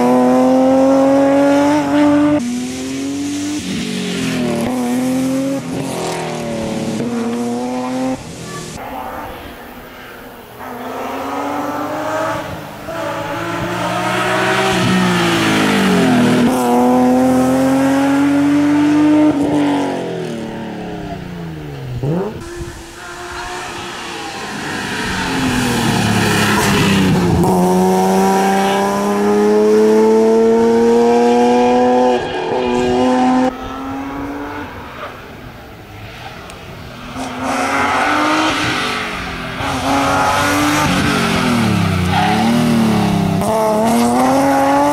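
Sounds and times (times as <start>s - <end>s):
rally car engine at full throttle: 0.0s - 44.9s.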